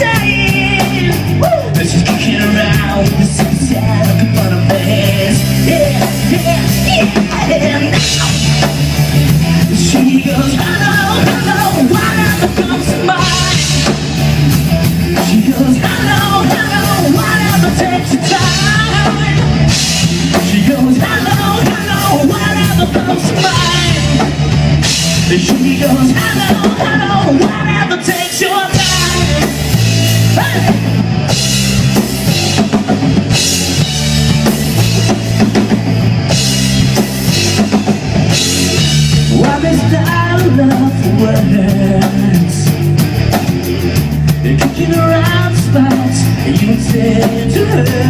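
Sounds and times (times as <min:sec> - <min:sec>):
drum kit: 0:00.0 - 0:48.0
rock band playing loudly: 0:00.0 - 0:48.0.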